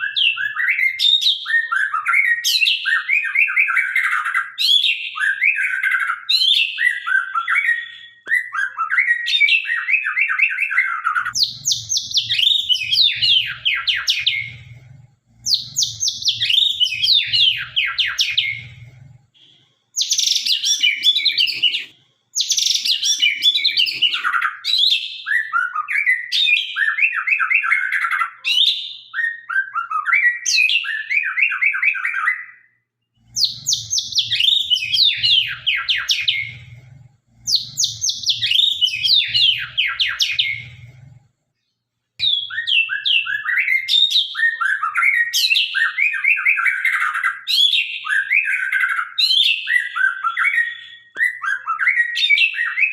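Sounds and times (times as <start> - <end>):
bird singing whistled phrases: 0.0 - 14.6, 15.5 - 18.7, 22.4 - 32.7, 33.4 - 36.6, 37.5 - 40.8, 42.2 - 52.9.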